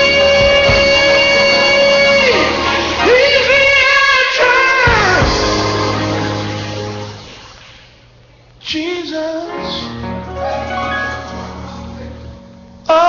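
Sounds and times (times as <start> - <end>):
gospel song with singer: 0.0 - 8.0, 8.6 - 13.0.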